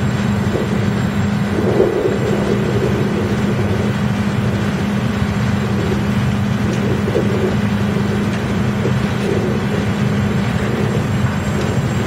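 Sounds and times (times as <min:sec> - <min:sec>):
wood chipper machine hum: 0:00.0 - 0:12.0.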